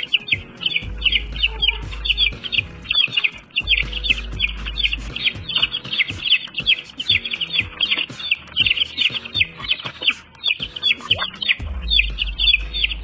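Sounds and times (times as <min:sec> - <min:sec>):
baby chicks peeping: 0:00.0 - 0:13.0
background music: 0:00.0 - 0:13.0.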